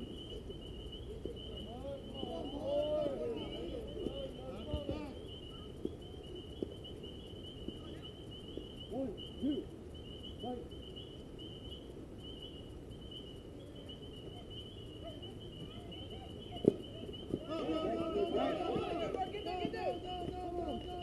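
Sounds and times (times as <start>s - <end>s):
distant shouts: 0.0s - 21.0s
insects chirping: 0.0s - 21.0s.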